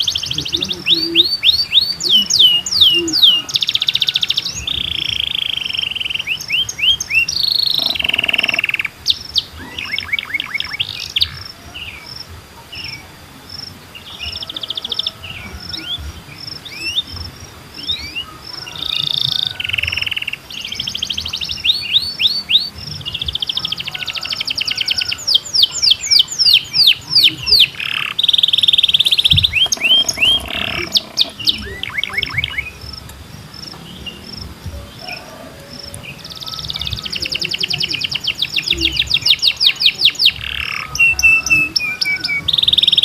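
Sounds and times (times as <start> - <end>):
birds singing and chirping: 0.0 - 43.0.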